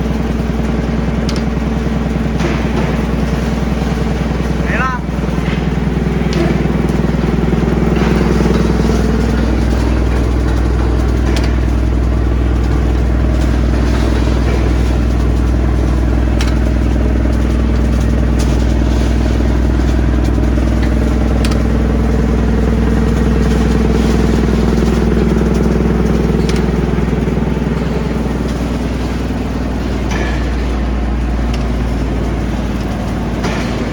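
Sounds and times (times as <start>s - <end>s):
wood chipper engine drone: 0.0s - 33.9s
wood cracking in chipper: 0.1s - 33.9s.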